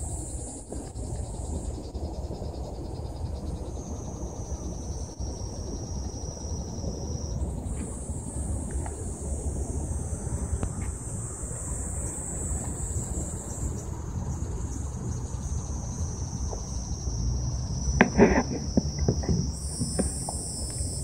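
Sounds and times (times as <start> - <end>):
high-pitched insects chorus: 0.0 - 21.0
lower-pitched insect call: 0.0 - 21.0
wind rumble on microphone: 0.0 - 21.0.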